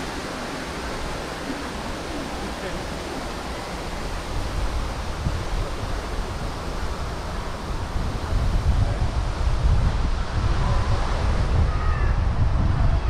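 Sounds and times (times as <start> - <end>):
broad outdoor rush: 0.0 - 13.0
wind buffeting microphone: 0.0 - 13.0.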